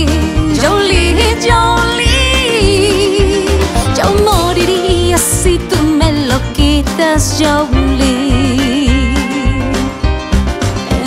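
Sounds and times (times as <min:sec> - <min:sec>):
country-pop band music: 0:00.0 - 0:11.0.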